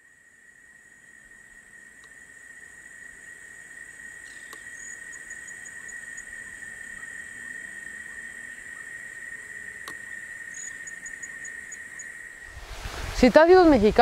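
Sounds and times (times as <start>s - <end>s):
rapid high insect chirps: 0.0s - 13.4s
insect drone: 0.0s - 14.0s.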